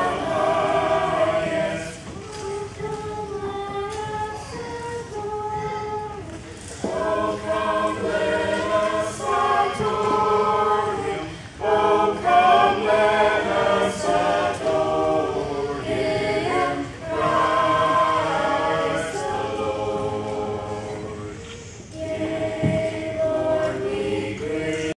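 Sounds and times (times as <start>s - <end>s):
school choir singing: 0.0s - 25.0s.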